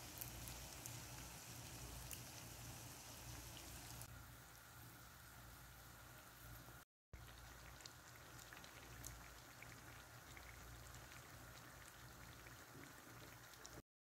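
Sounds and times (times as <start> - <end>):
hot oil sizzling around frying dough: 0.0 - 13.8.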